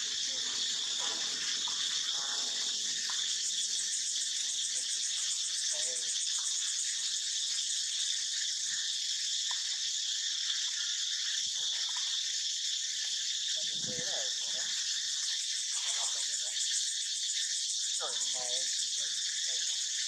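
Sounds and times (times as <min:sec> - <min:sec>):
insect chorus drone: 0:00.0 - 0:20.0.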